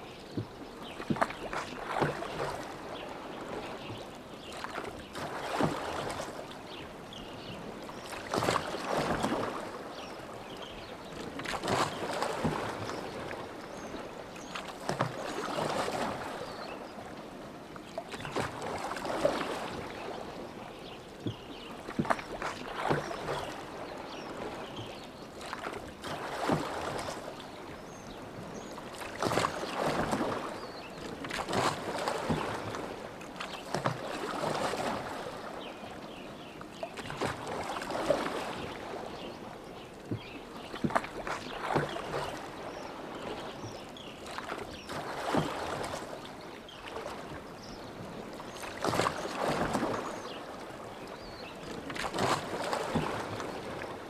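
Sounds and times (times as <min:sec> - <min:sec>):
oars splashing in water: 0:00.0 - 0:54.0.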